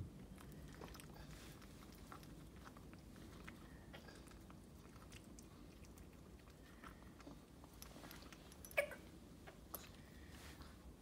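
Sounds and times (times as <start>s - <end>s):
dog licking and suckling: 0.1s - 10.1s.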